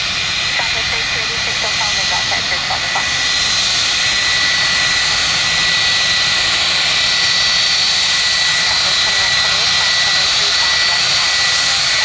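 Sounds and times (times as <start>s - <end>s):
high-pitched engine whine: 0.0s - 12.0s
jet engines running: 0.0s - 12.0s.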